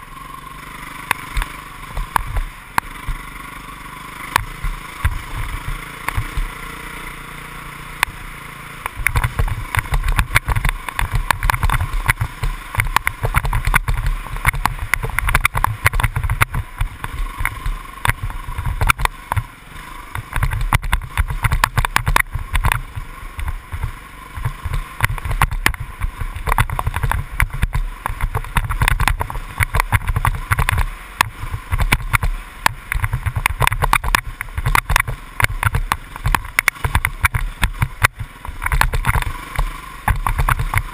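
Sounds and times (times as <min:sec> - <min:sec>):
dirt bike engine running: 0:00.0 - 0:40.9
thumps and jolts from bumps: 0:01.1 - 0:03.2, 0:04.3 - 0:06.5, 0:08.9 - 0:40.9.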